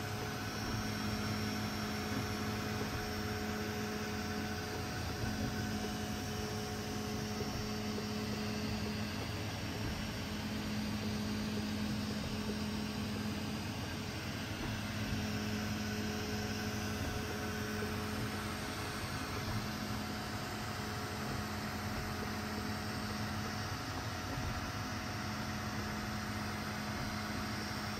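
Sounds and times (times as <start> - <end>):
fan whir: 0.0 - 27.9
low motor hum: 0.0 - 27.9.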